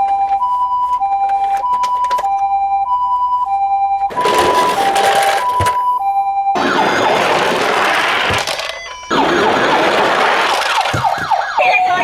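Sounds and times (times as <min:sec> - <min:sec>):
toy two-tone siren: 0:00.0 - 0:12.0
harsh toy siren sweeps: 0:00.1 - 0:12.0.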